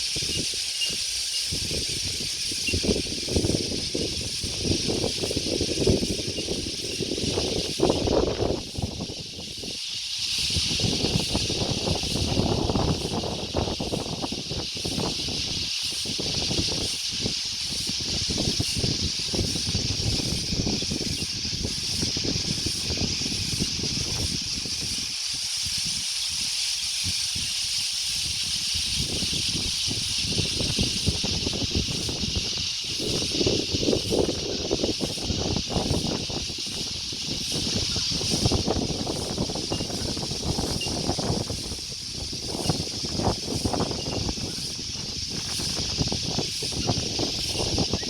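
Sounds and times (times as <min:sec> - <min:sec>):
steady high-pitched hiss: 0:00.0 - 0:48.0
wind gusting across microphone: 0:00.0 - 0:48.0.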